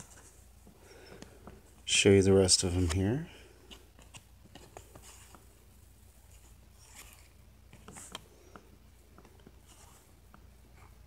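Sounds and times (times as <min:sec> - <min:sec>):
low steady hum: 0:00.0 - 0:11.0
trading cards rustling and clicking: 0:00.0 - 0:11.0.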